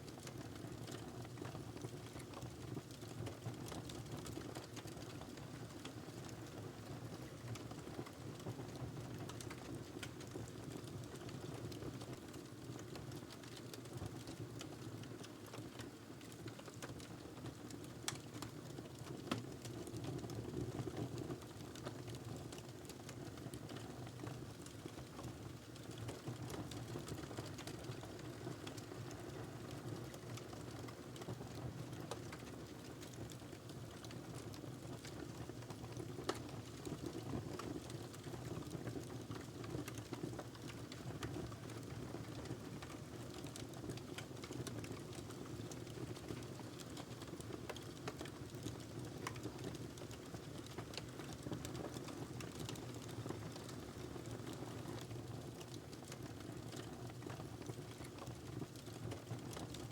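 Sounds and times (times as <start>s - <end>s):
wood fire crackling and popping: 0.1s - 6.6s, 7.2s - 59.9s.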